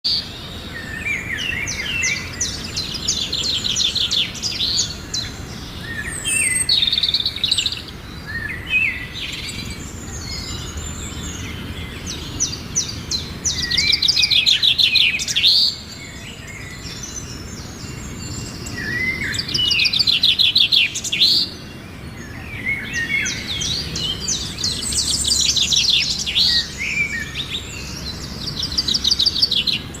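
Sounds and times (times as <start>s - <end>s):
bird trills and chirps: 0.1s - 30.0s
loud bird song phrase: 0.1s - 30.0s.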